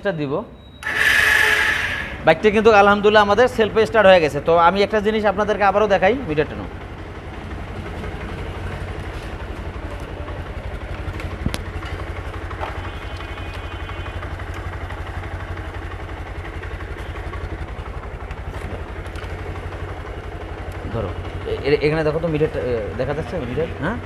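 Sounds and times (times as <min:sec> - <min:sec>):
motorcycle engine idling: 0:00.8 - 0:24.0.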